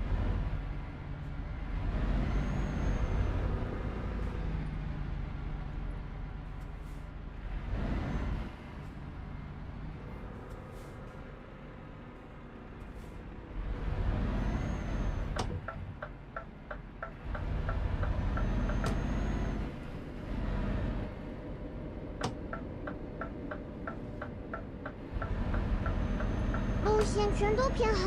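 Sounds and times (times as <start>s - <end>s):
road and wind rumble: 0.0s - 28.0s.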